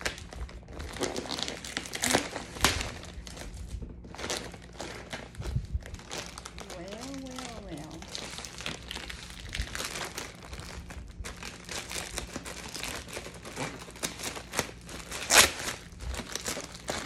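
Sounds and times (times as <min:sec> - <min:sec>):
loud plastic crackle: 0:00.0 - 0:17.0
plastic bag crinkling: 0:00.0 - 0:17.0.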